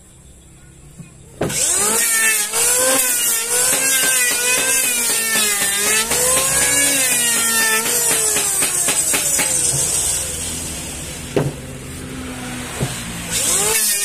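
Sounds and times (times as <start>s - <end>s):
electric planer cutting wood: 1.5s - 14.0s.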